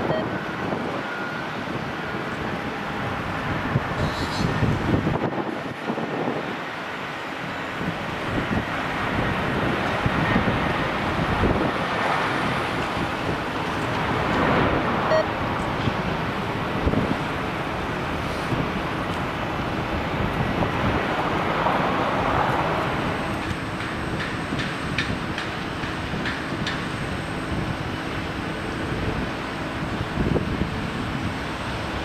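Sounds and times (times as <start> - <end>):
jet airliner engines rushing: 0.0 - 32.0
wind buffeting microphone: 0.0 - 32.0.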